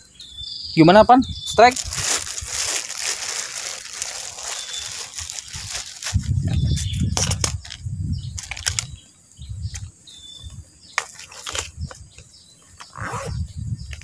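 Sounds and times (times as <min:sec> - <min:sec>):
high bird chirp: 0:00.0 - 0:02.6, 0:04.2 - 0:14.0
wind rumbling on microphone: 0:00.2 - 0:14.0.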